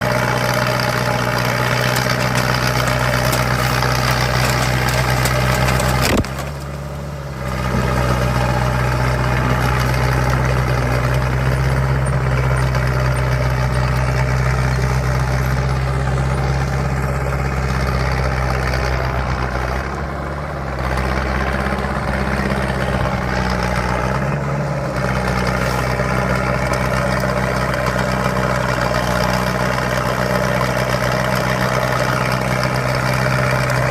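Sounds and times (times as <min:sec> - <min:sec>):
bulldozer diesel engine: 0:00.0 - 0:33.9.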